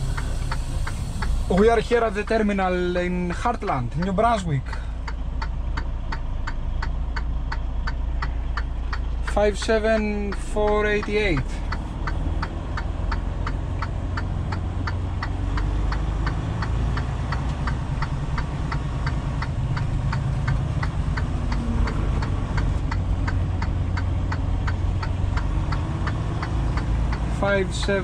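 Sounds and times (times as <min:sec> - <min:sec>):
diesel truck engine running: 0:00.0 - 0:28.0
turn signal clicking: 0:00.0 - 0:28.0.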